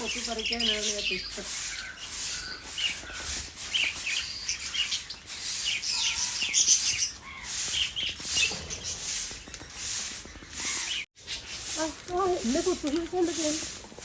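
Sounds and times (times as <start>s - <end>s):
birds chirping and squawking: 0.0s - 14.0s.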